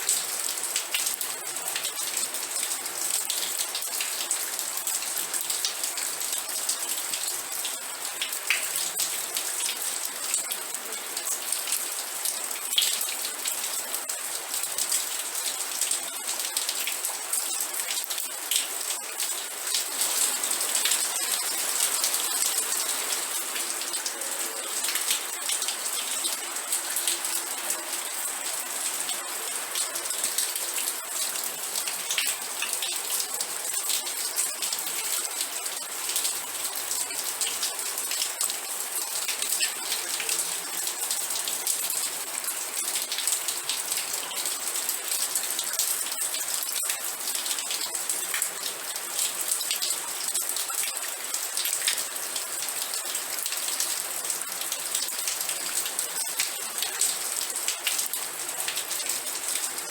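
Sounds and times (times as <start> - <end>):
rain patter: 0.0 - 59.9.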